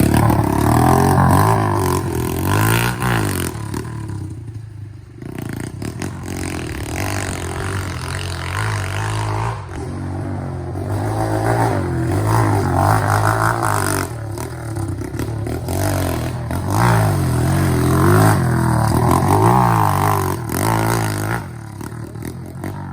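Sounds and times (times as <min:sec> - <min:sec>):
motorbike engine revving hard: 0:00.0 - 0:22.9.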